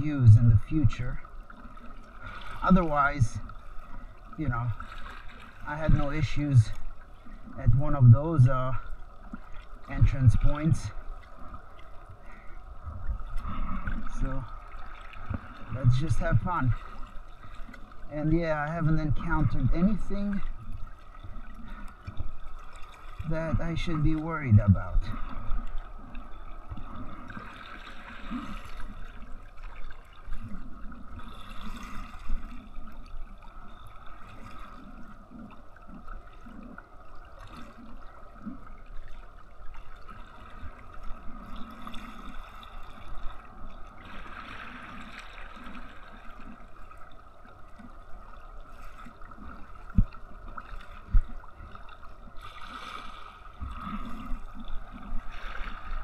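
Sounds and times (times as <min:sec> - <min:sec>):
water splashing against kayak hull: 0:00.0 - 0:56.0.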